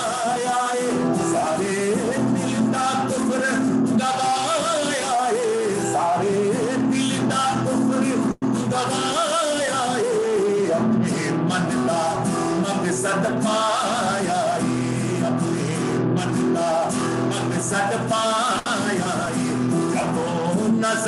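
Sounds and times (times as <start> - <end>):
acoustic guitar accompaniment: 0.0 - 21.0
man singing ornamented phrases: 0.0 - 21.0.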